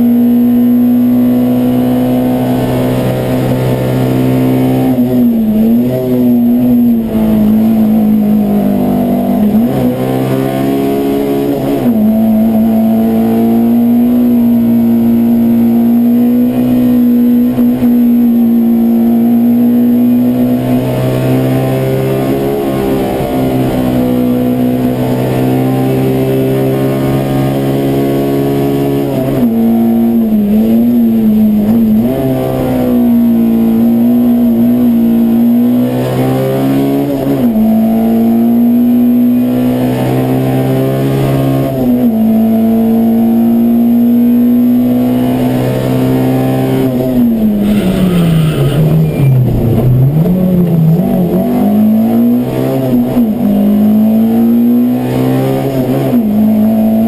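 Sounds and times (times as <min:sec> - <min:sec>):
engine running at high revs: 0:00.0 - 0:57.0.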